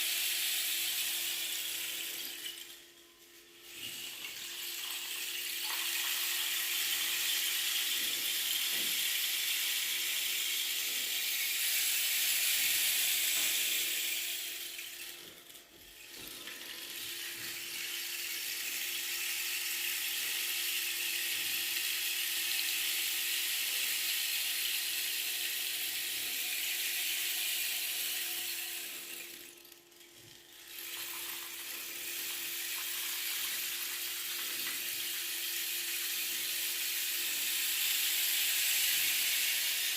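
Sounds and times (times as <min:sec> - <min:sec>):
rain stick rattling hiss: 0:03.6 - 0:39.9.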